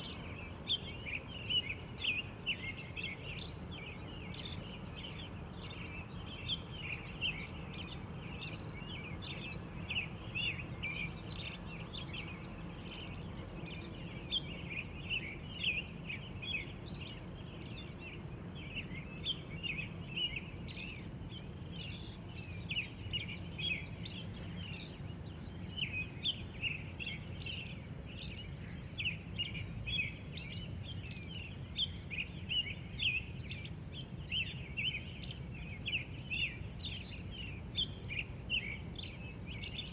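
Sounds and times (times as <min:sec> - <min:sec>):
birds chirping: 0:00.0 - 0:39.9
high-pitched insect trill: 0:00.0 - 0:39.9
low background hum: 0:00.0 - 0:39.9.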